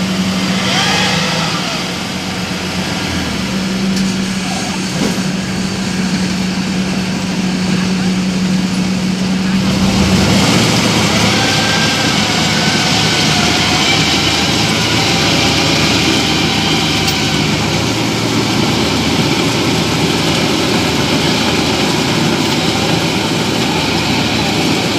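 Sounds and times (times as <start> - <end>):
diesel engine running steadily: 0.0 - 24.9.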